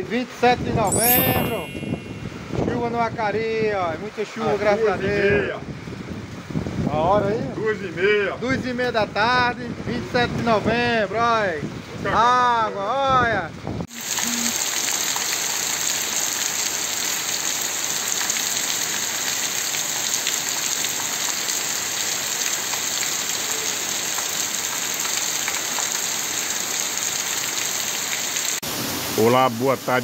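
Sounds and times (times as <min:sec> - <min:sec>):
heavy rain on street and rooftops: 0:03.0 - 0:12.7, 0:13.6 - 0:30.0.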